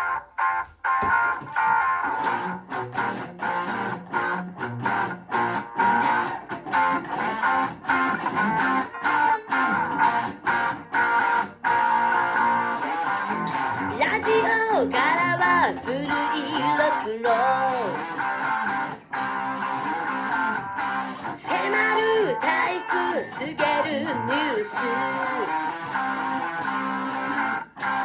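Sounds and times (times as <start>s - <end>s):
electric guitar choppy rhythm: 0.0s - 28.0s
rock band instrumental: 0.0s - 28.0s.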